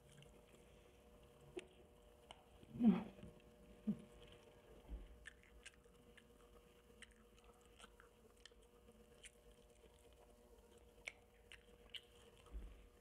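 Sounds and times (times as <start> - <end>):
crunchy chewing: 0.0 - 2.7, 3.4 - 13.0
faint steady hum: 0.0 - 13.0.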